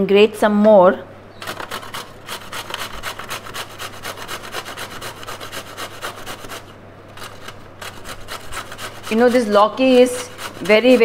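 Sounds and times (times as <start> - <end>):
gourd grated on metal grater: 1.4 - 11.0.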